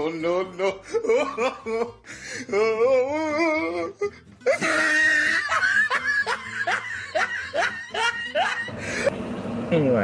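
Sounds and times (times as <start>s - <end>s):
person laughing: 0.4s - 9.1s.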